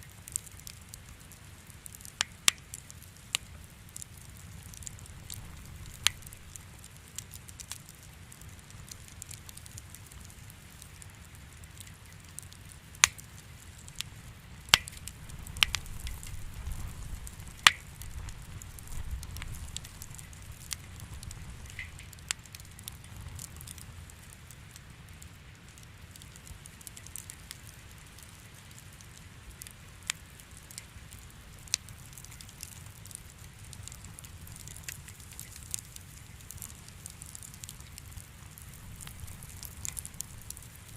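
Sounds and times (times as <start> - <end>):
low rumble of burning: 0.0 - 40.9
wood fire crackling and popping: 0.0 - 40.9.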